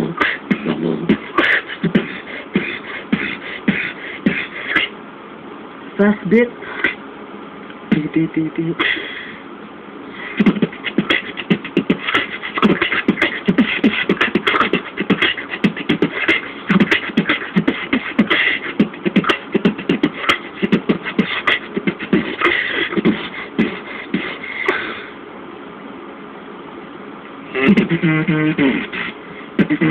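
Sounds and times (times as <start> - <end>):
beatboxing: 0.0 - 5.0, 6.4 - 7.0, 7.9 - 9.3, 10.1 - 25.1, 27.5 - 29.9.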